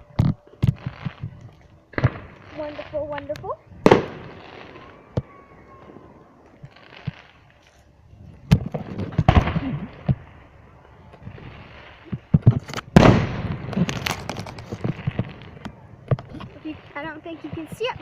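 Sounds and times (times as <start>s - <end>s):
fireworks bangs with echoing rumble: 0.0s - 7.6s, 8.3s - 18.0s.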